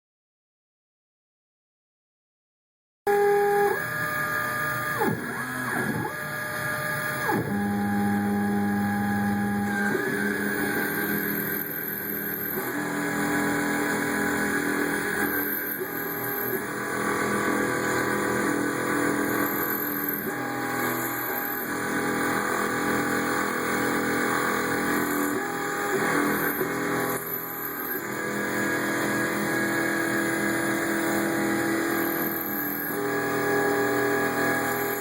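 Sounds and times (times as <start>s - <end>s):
spindle motor humming: 3.1s - 35.0s
stepper motors whining: 3.1s - 35.0s.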